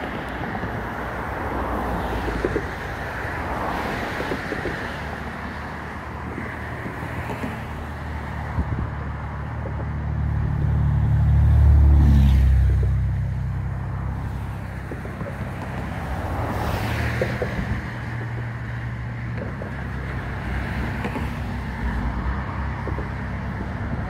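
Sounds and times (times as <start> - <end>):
car passing close: 0.0 - 24.0
wind and road noise: 0.0 - 24.0.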